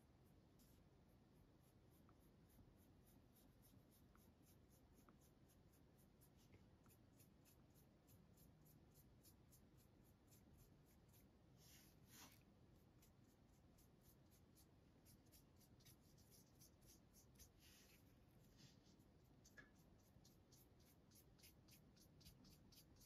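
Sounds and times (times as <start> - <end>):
pen strokes on paper: 0.0 - 23.0.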